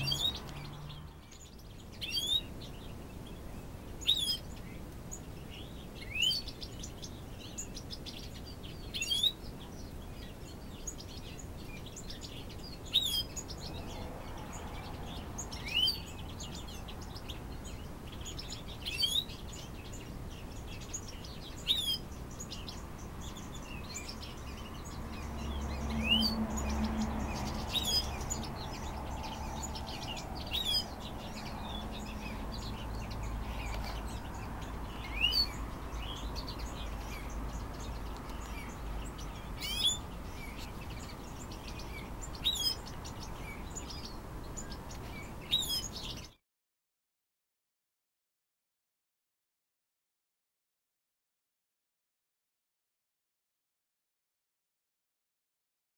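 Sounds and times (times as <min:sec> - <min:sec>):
small birds chirping: 0:00.0 - 0:46.4.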